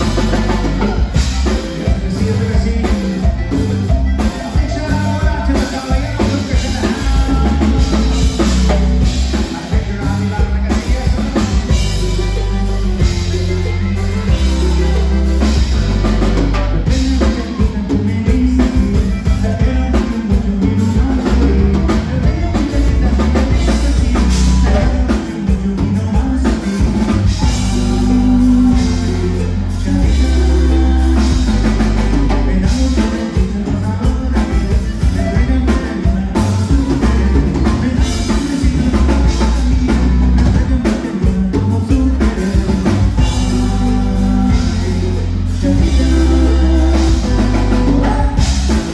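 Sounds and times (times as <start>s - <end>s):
button accordion: 0.0s - 48.9s
drum kit: 0.0s - 48.9s
electric bass: 0.0s - 48.9s.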